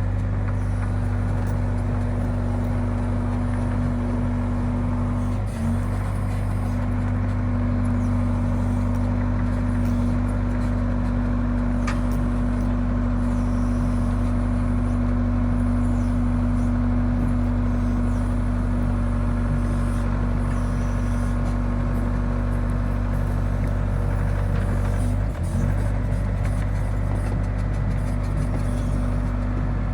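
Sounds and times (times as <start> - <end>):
excavator diesel engine droning: 0.0 - 29.9.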